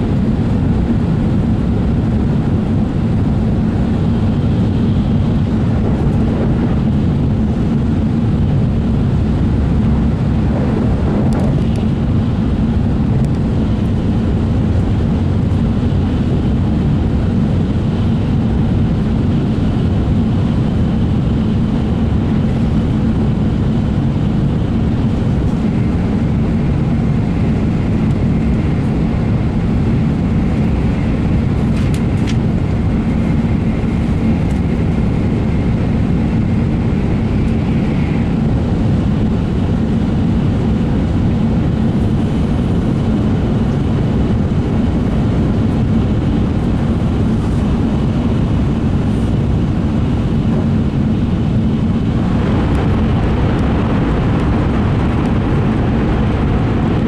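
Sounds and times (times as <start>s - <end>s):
train cabin running rumble: 0.0s - 57.0s.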